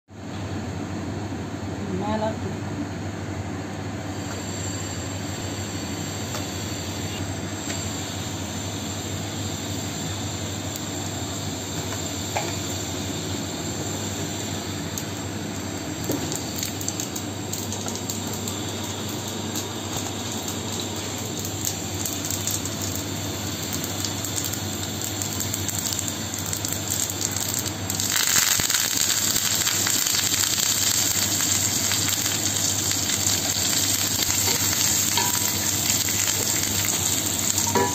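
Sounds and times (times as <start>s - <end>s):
leaves sizzling in hot oil: 4.1s - 37.9s
oil hissing and crackling in pan: 4.1s - 37.9s.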